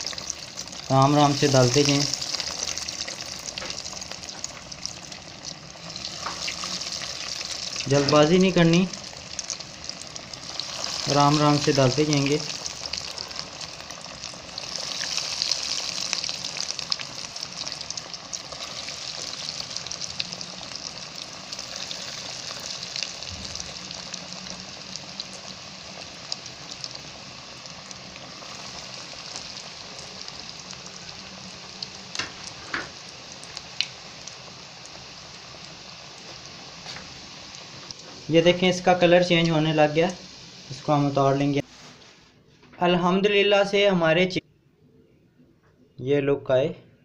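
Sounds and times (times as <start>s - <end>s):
food deep-frying in oil: 0.0s - 41.7s.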